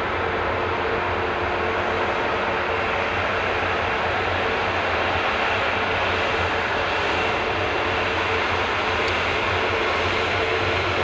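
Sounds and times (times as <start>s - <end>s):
faint engine whine: 0.0s - 11.0s
jet engines roaring: 0.0s - 11.0s.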